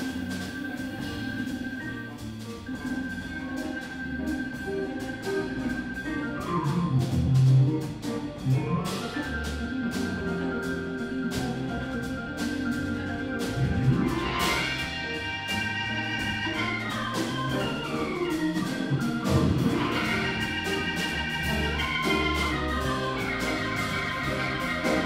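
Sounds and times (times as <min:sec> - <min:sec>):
blues band playing: 0:00.0 - 0:25.0
organ lead: 0:00.0 - 0:25.0.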